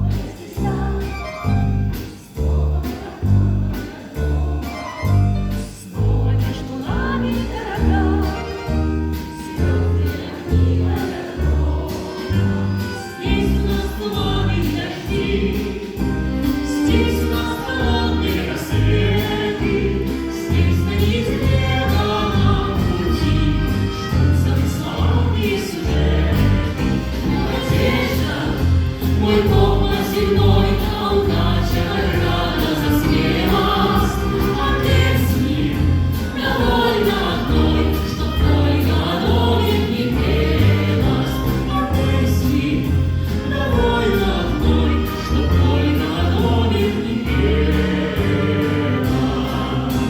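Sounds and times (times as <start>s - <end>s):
instrumental ensemble: 0.0s - 50.0s
pulsing bass line: 0.0s - 50.0s
vocal group singing: 0.0s - 50.0s.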